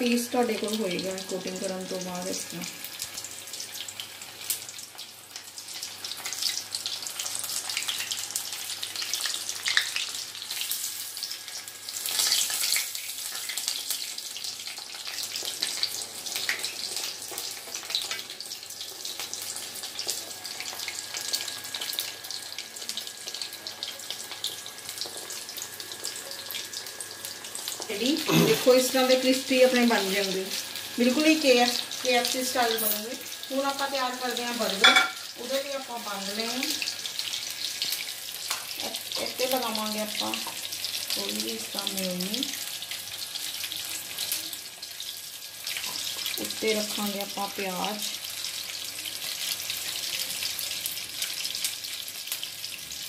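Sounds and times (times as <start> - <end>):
chicken deep-frying in oil: 0.0 - 53.0.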